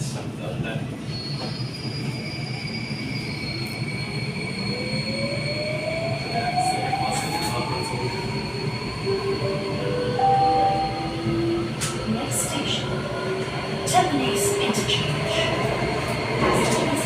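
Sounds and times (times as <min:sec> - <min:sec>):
train wheels rumbling on rail: 0:00.0 - 0:10.1, 0:11.0 - 0:17.0.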